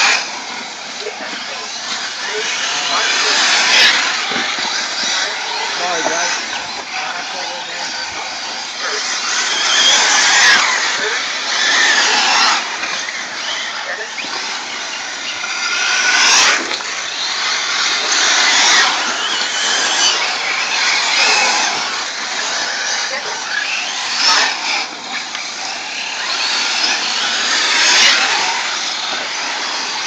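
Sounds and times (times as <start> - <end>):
small engines screaming at high revs: 0.0 - 30.0.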